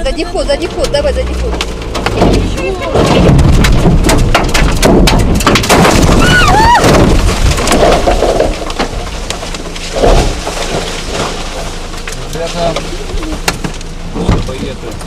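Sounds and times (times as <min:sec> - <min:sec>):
branches cracking and crashing: 0:00.9 - 0:14.5.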